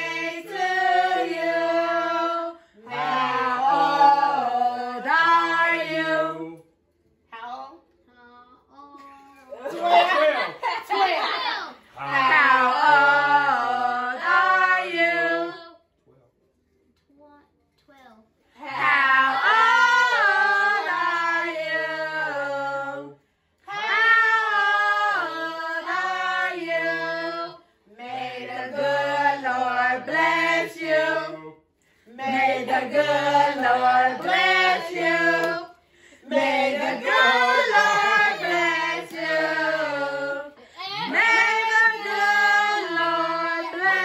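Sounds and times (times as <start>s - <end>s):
children and women singing: 0.0s - 6.6s, 12.0s - 15.8s, 18.6s - 44.0s.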